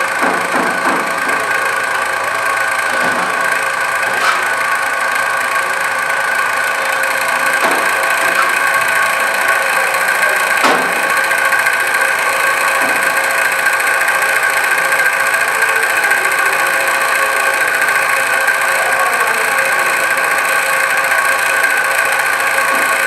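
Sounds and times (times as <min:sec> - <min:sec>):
loud machine hum: 0:00.0 - 0:23.0.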